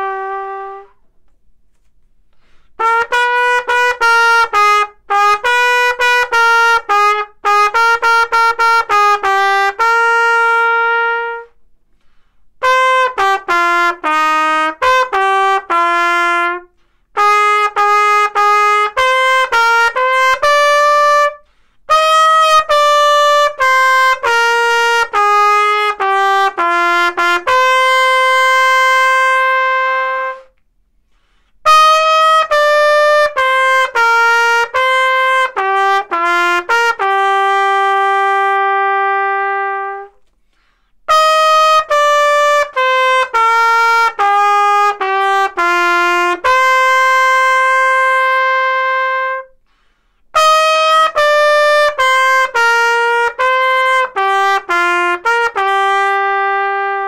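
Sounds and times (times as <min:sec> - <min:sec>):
solo trumpet melody: 0:00.0 - 0:57.0.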